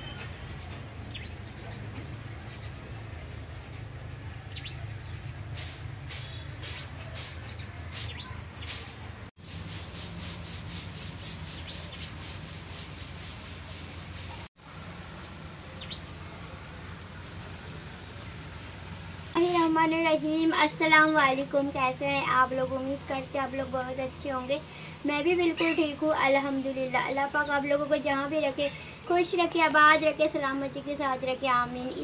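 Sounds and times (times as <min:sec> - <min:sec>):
birds chirping: 0:00.0 - 0:09.3, 0:10.9 - 0:32.0.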